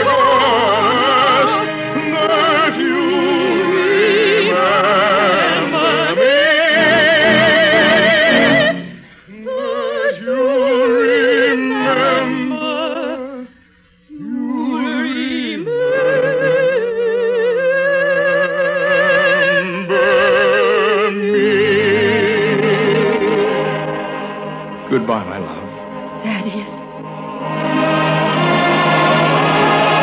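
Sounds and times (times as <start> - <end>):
operatic singing: 0.0 - 13.5, 14.1 - 30.0.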